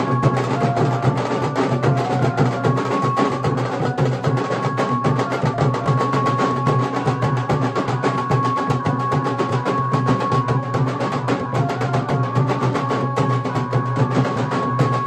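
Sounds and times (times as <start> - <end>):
barrel drums beaten with sticks: 0.0 - 15.0.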